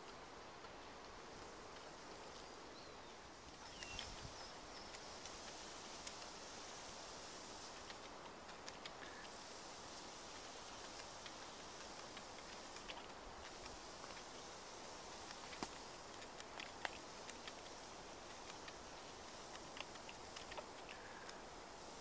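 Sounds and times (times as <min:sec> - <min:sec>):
sprayer misting hiss: 0:03.3 - 0:22.0.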